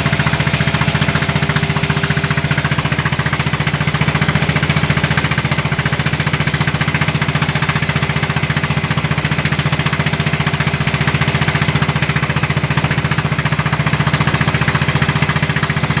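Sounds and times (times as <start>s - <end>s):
boat diesel engine putt-putt: 0.0s - 16.0s.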